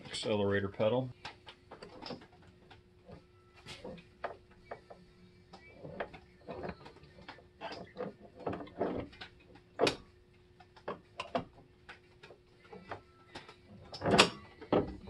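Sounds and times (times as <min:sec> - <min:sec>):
mechanical clicks and clunks: 0:01.2 - 0:15.0.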